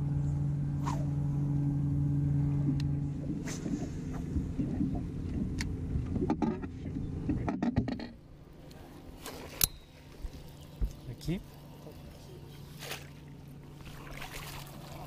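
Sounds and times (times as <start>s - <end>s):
electric trolling motor humming: 0.0s - 15.0s.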